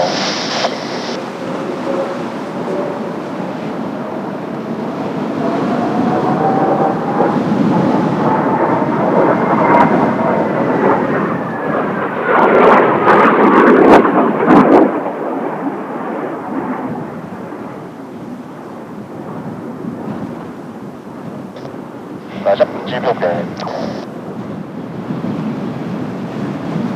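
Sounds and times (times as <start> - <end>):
jet flying past: 0.0 - 24.8
wind buffeting microphone: 0.0 - 26.9.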